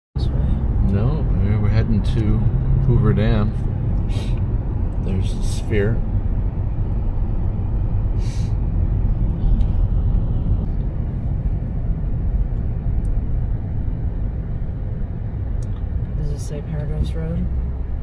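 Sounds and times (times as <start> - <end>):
car driving rumble: 0.2 - 18.0.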